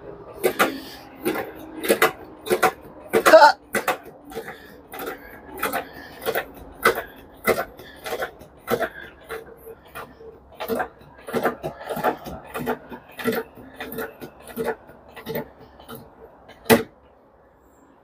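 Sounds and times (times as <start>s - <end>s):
hydraulic jack pumping strokes: 0.0s - 17.0s.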